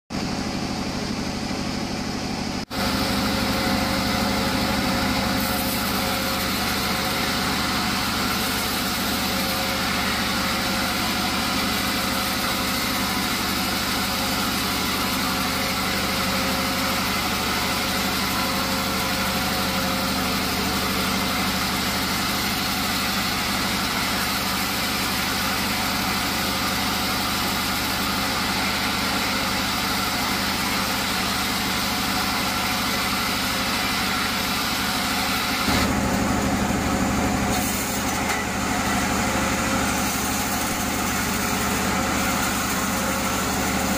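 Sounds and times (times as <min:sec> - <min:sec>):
band sawmill running: 0:00.1 - 0:43.9.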